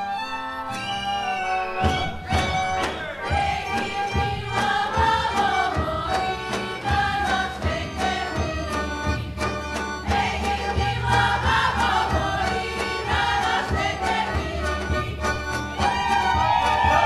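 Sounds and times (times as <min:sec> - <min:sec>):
steady drumbeat: 0:01.8 - 0:17.0
group of voices singing: 0:03.0 - 0:17.0.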